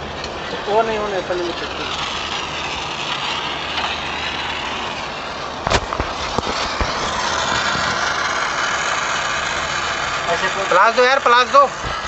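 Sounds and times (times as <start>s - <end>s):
torch hissing: 0.0s - 12.0s.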